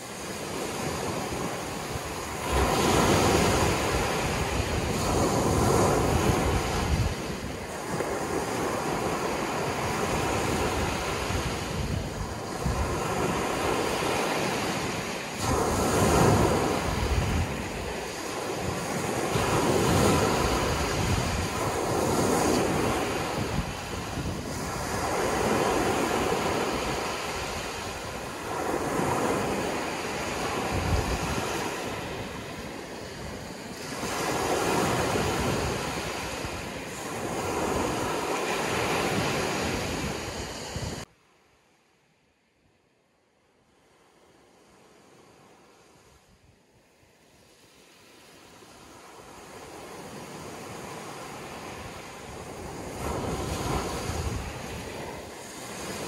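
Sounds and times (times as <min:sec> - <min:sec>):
ocean waves breaking: 0:00.0 - 0:41.1, 0:47.2 - 0:56.0.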